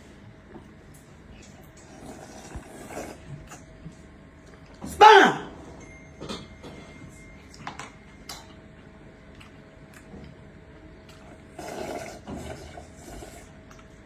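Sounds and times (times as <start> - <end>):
eating and drinking sounds: 0.0 - 5.6, 6.2 - 14.0.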